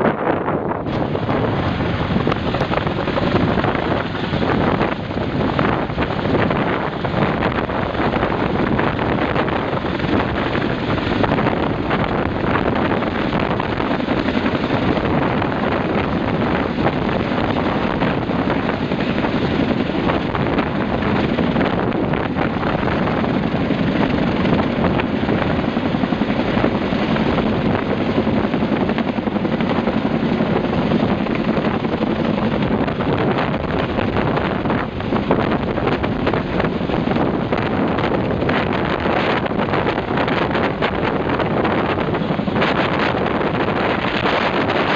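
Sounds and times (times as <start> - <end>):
helicopter rotor and engine: 0.0 - 44.9
wind buffeting microphone: 0.0 - 44.9.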